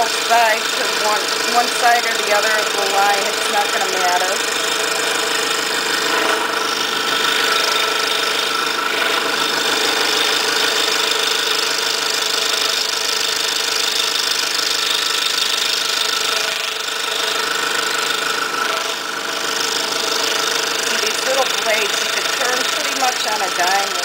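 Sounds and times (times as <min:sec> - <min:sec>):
scroll saw cutting plywood: 0:00.0 - 0:24.0.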